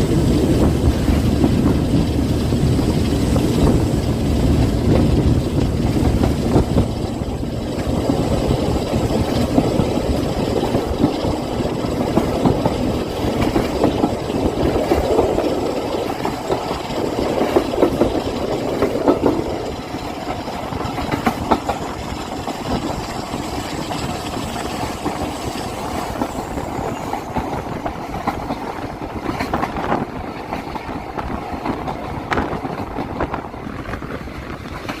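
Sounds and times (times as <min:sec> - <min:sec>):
locomotive engine rumble: 0:00.0 - 0:35.0
wheels clattering on rails: 0:00.0 - 0:35.0.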